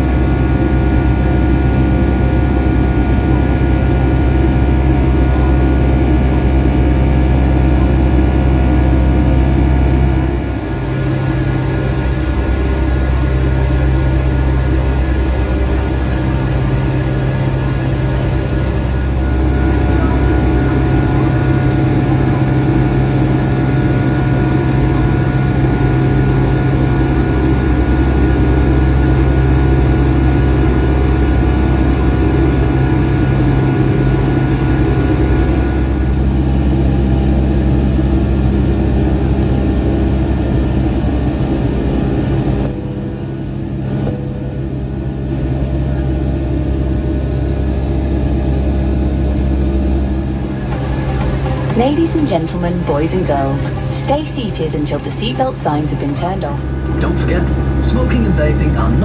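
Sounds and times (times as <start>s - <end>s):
jet engine cabin drone: 0.0s - 59.0s.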